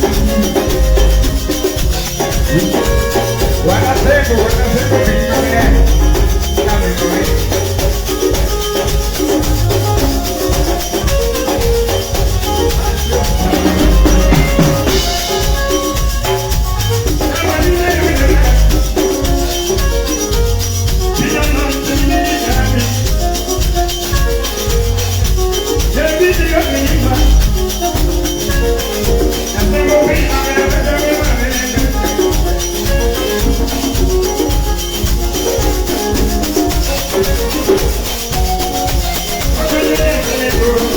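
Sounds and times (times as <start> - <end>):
drums: 0.0 - 40.9
live band music: 0.0 - 40.9
shaker: 0.0 - 40.9.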